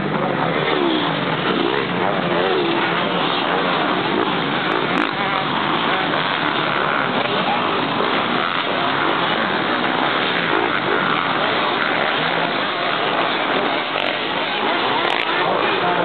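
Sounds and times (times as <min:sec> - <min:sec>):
motorcycle engines running: 0:00.0 - 0:16.0.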